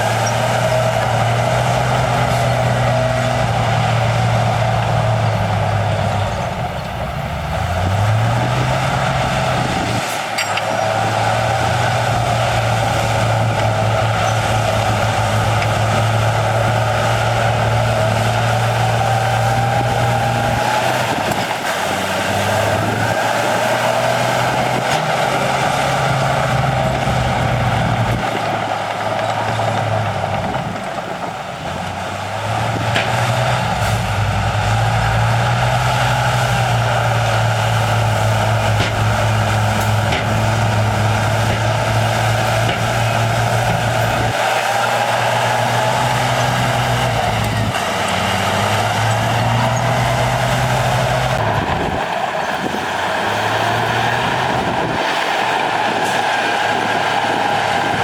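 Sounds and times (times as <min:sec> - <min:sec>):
heavy diesel machinery engine: 0:00.0 - 0:58.0.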